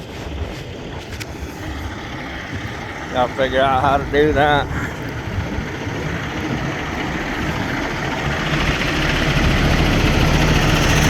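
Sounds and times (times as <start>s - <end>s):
engine running: 0.0s - 11.0s
low hum: 0.0s - 11.0s.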